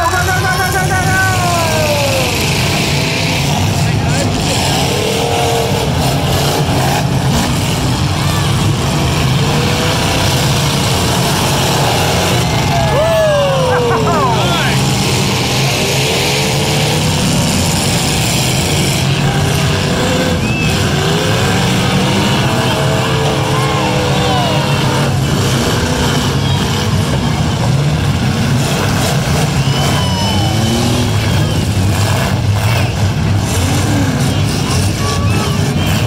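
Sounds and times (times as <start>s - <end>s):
car engines revving: 0.0s - 36.0s
cars ramming each other: 0.0s - 36.0s.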